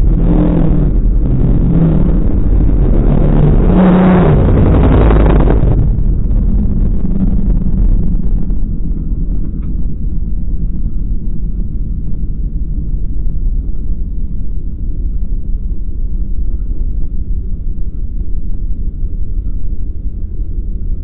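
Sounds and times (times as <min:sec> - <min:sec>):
car engine rumbling: 0:00.0 - 0:21.0
wind buffeting microphone: 0:00.0 - 0:21.0.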